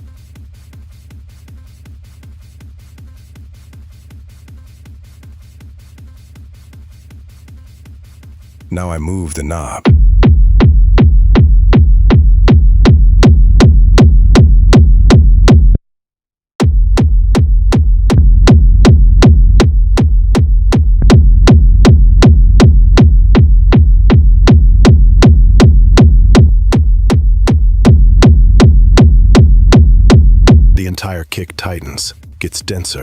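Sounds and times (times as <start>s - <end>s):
techno kick drum beat: 0.0s - 15.8s, 16.6s - 33.0s.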